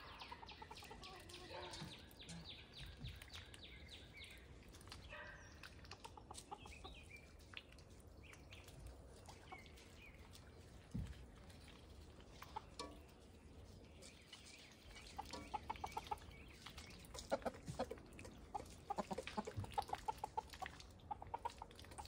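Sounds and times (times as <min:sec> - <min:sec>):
soft bird clucking calls: 0:00.0 - 0:22.0.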